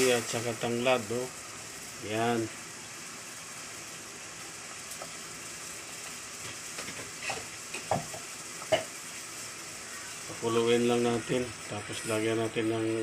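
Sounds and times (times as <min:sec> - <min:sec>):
water heating with hiss: 0:00.0 - 0:13.0.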